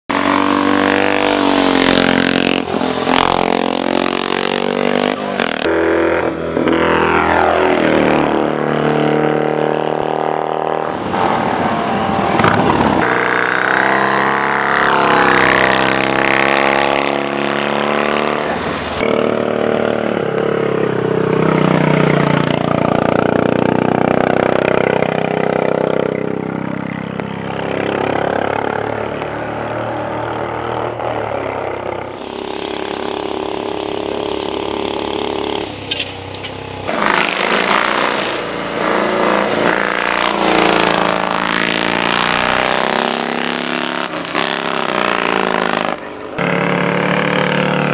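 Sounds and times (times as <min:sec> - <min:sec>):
racing motorcycle engines revving: 0:00.1 - 0:47.9.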